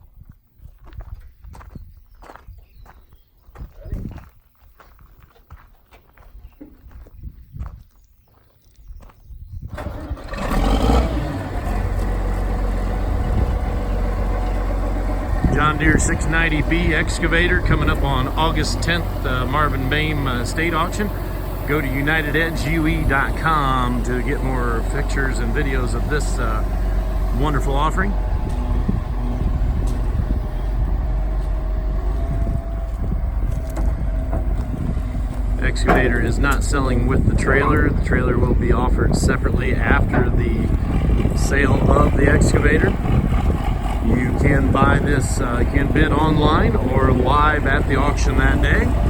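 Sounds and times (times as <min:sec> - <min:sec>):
wind buffeting microphone: 0:00.0 - 0:49.0
diesel engine starting and running: 0:09.6 - 0:49.0.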